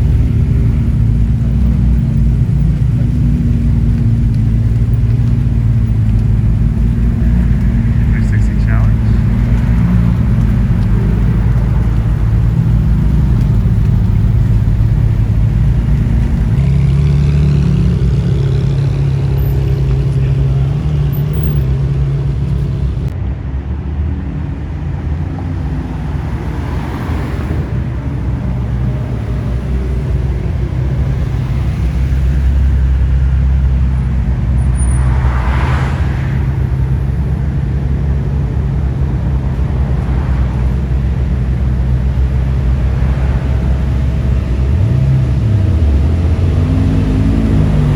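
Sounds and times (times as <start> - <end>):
car engine and road drone: 0.0 - 47.9.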